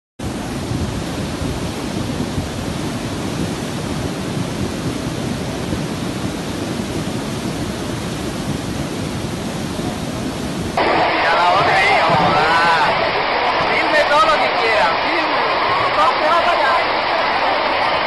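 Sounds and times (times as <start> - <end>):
river water rushing: 0.2 - 18.0.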